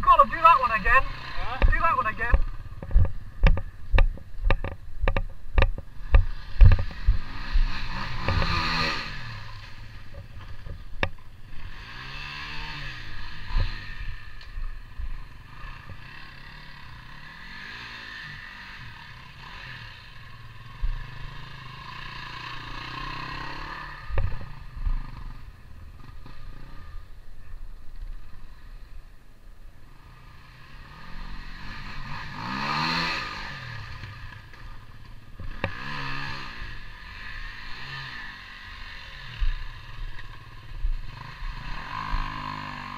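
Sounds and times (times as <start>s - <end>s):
motorbike engine revving: 0.0s - 27.5s, 29.9s - 42.9s.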